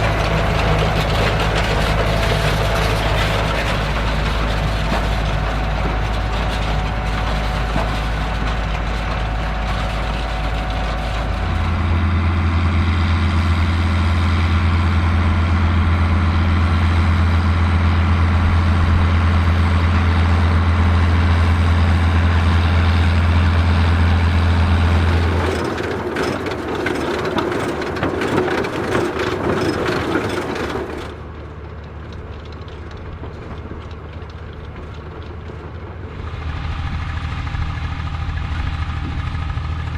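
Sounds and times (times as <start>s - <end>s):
rattling clattering machinery: 0.0s - 39.9s
tractor engines running: 0.0s - 39.9s.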